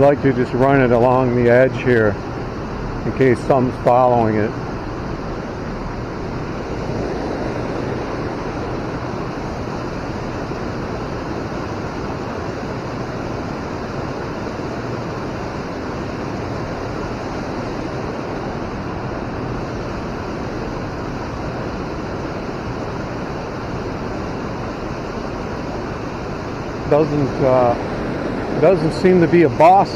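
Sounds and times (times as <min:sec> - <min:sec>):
river water rushing: 0:04.2 - 0:29.9.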